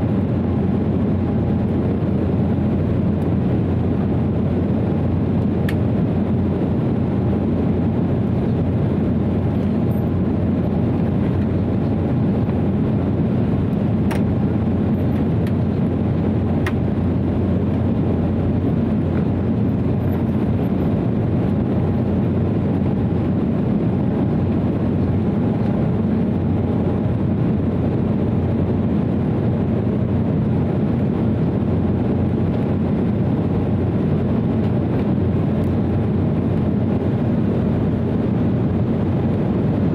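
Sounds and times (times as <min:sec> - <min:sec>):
airplane cabin drone: 0:00.0 - 0:39.9
faint steady whine: 0:00.0 - 0:39.9.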